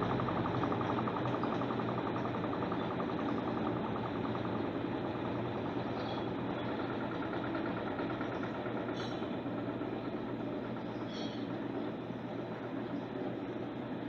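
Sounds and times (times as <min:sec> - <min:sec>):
washing machine churning: 0:00.0 - 0:14.0.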